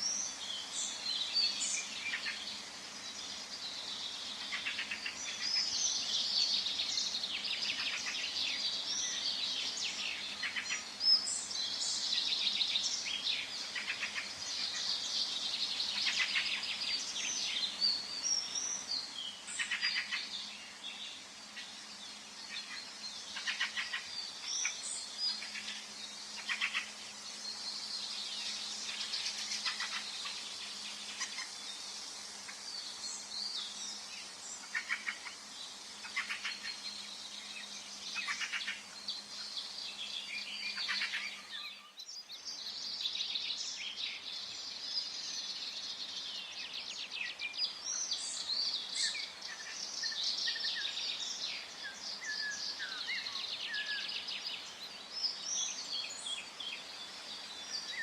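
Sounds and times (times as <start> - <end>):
birds chirping and trilling: 0.0 - 58.0
faint steady hiss: 0.0 - 58.0.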